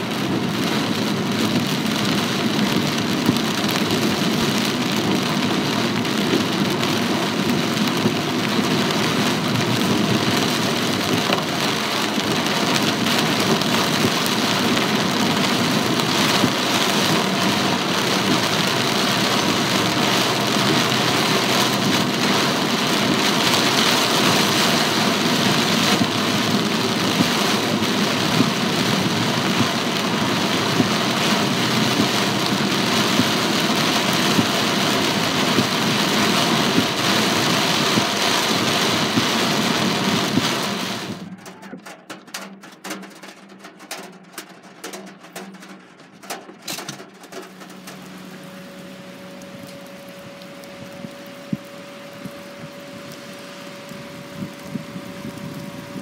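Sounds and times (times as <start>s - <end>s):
car engine running: 0.0s - 56.0s
heavy rain on car roof: 0.0s - 56.0s
tyres on wet road: 0.0s - 56.0s.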